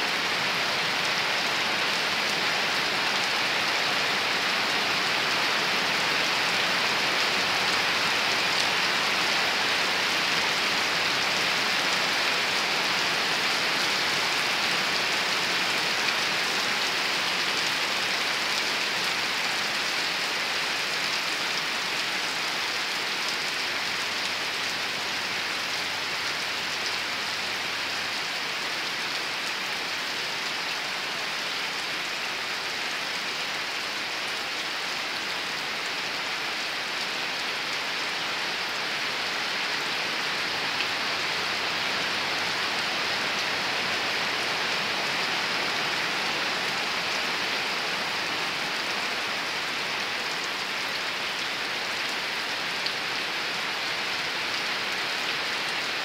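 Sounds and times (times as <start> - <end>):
rain on trees and leaves: 0.0 - 56.0.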